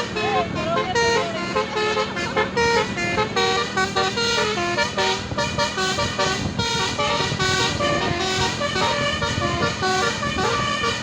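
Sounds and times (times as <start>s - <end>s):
bus horn playing tune: 0.0s - 11.0s.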